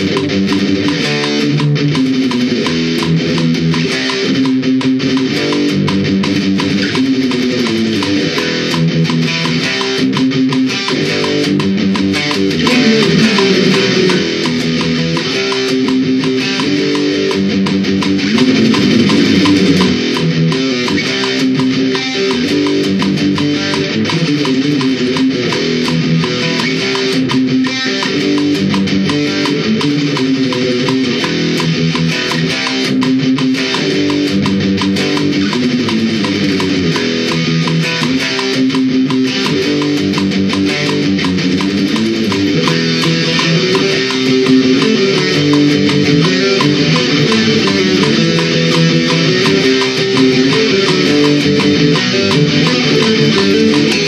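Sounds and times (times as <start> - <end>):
electric guitar metal riff: 0.0 - 54.0.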